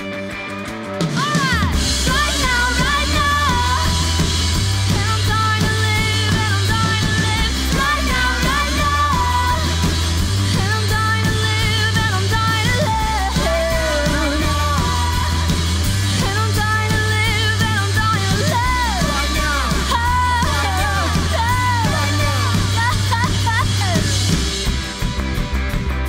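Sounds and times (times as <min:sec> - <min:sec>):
rock band playing live: 0:00.0 - 0:26.0
woman singing lead: 0:01.0 - 0:24.4.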